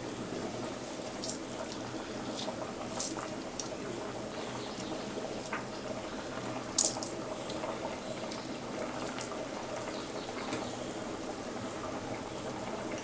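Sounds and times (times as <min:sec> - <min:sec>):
chutney bubbling in a pan: 0:00.0 - 0:13.0.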